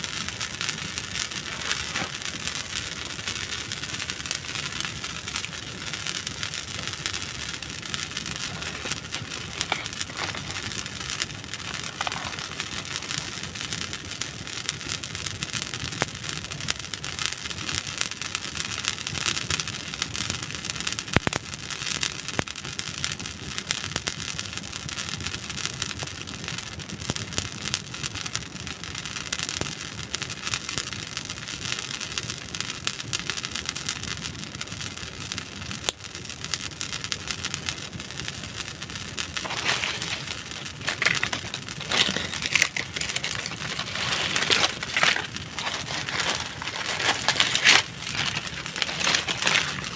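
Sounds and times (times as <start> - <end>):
campfire crackling: 0.0 - 24.3, 25.1 - 49.9.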